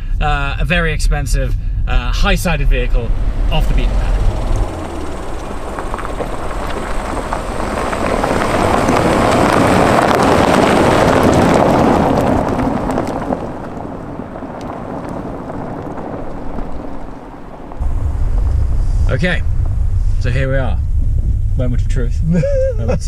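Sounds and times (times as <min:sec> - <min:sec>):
tyre and wind noise: 0:00.0 - 0:23.0.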